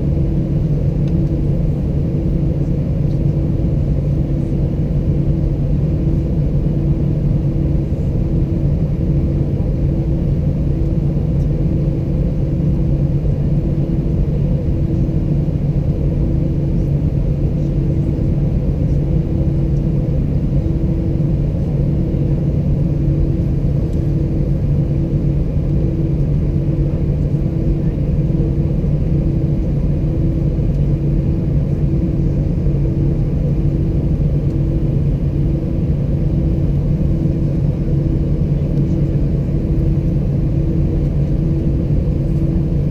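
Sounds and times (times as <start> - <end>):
airplane cabin engine hum: 0.0 - 42.9.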